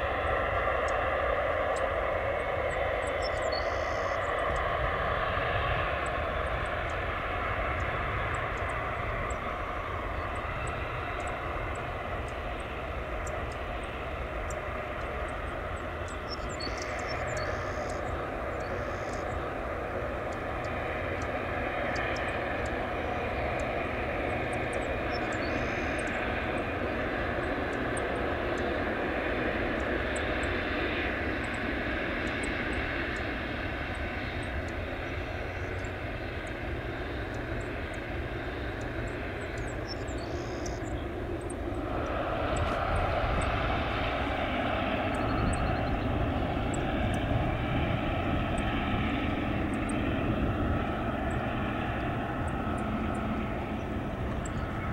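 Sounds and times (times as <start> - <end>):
jet engine rumble and hiss: 0.0 - 54.9.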